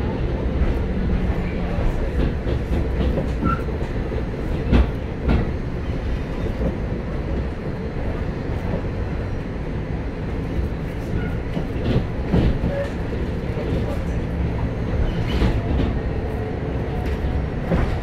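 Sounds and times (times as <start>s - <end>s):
tram wheels rumbling: 0.0s - 18.0s.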